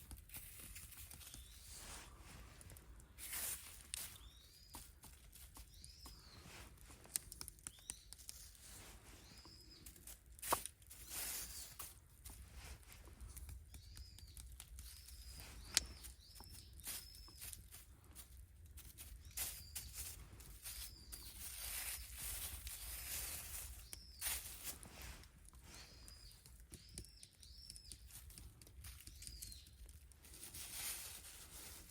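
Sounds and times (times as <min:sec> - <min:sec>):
small bird chirping: 0:00.0 - 0:18.2, 0:18.8 - 0:31.9
rustling: 0:00.0 - 0:27.2, 0:27.8 - 0:31.9.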